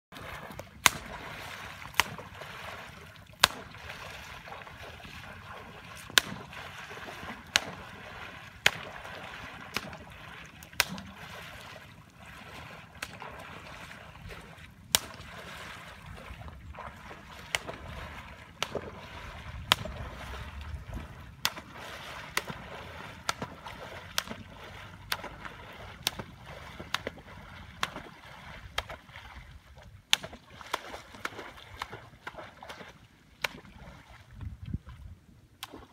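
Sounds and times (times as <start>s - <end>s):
water sloshing from wading: 0.1s - 35.9s.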